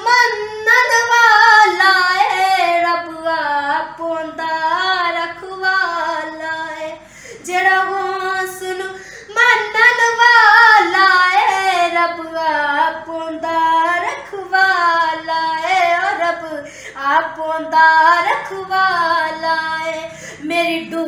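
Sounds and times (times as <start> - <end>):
woman singing unaccompanied: 0.0 - 21.0.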